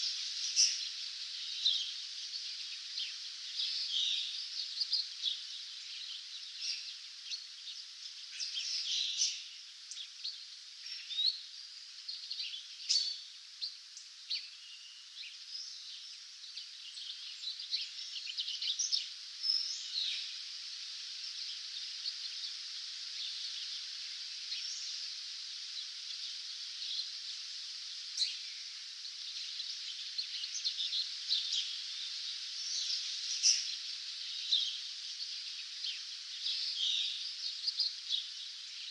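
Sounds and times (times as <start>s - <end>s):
songbirds chirping and trilling: 0.0s - 38.9s
steady high hiss: 0.0s - 38.9s.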